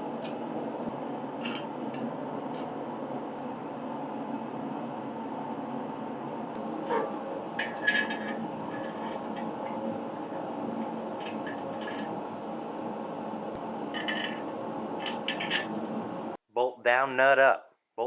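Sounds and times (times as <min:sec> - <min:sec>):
heater running: 0:00.0 - 0:16.4.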